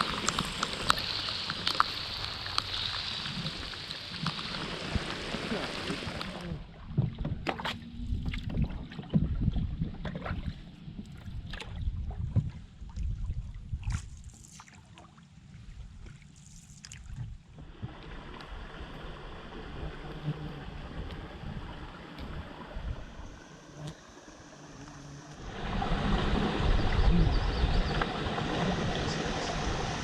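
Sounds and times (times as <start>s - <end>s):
wind rumble on microphone: 0.0s - 14.4s, 16.9s - 23.9s, 24.8s - 30.0s
paddle splashing water: 0.0s - 30.0s.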